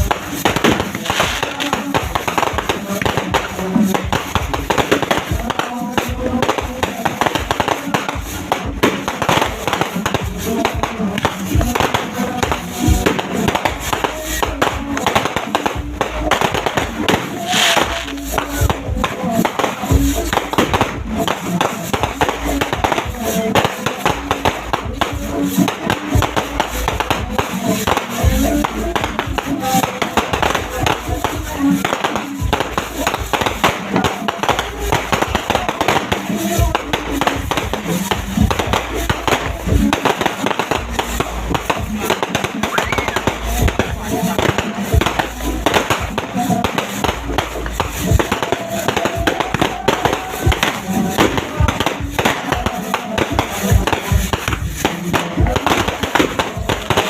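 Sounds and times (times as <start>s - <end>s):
firework hiss: 0.0s - 57.0s
fireworks cracking and banging: 0.0s - 57.0s
music: 0.0s - 57.0s.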